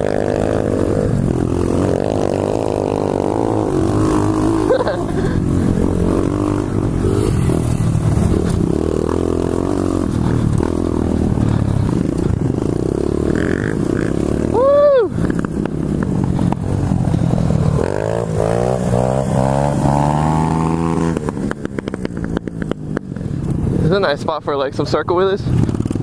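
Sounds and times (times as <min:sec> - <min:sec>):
motorbike engine revving: 0:00.0 - 0:24.1.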